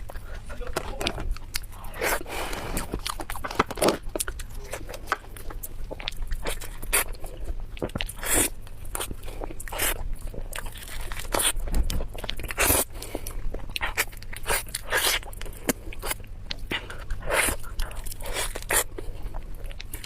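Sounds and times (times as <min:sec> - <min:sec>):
wet chewing mouth sounds: 0:00.0 - 0:20.0.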